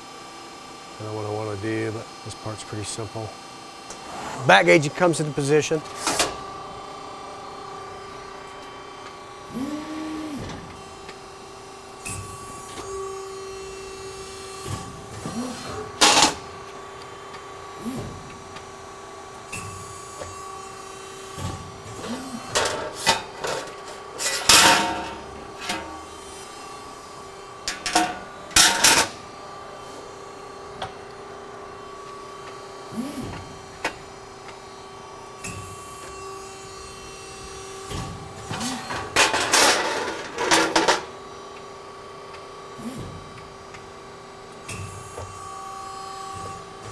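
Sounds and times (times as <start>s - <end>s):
hydraulic pump hum: 1.0s - 46.9s.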